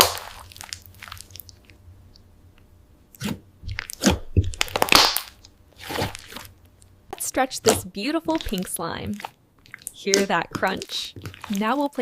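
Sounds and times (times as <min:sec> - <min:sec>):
crunchy slime squishing: 0:00.0 - 0:01.8, 0:03.1 - 0:06.6, 0:07.6 - 0:12.0.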